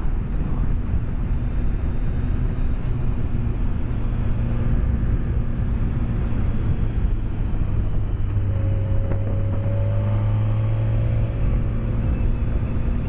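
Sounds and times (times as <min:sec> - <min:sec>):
motorcycle engine running: 0:00.0 - 0:13.0
wind and road rumble: 0:00.0 - 0:13.0.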